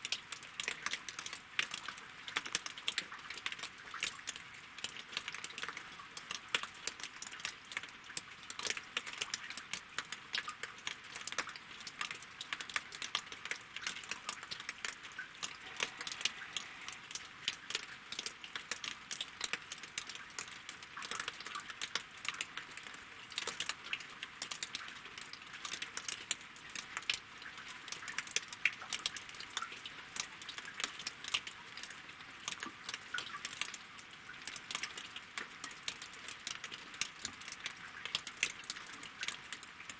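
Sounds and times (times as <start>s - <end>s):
rain drops on water and logs: 0.0s - 39.9s.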